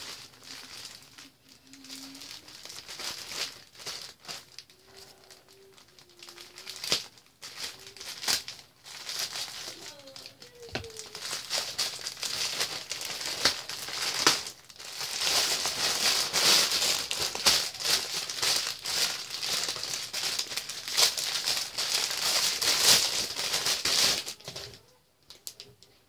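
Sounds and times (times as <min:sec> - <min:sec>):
plastic bag crinkling: 0:00.0 - 0:25.8.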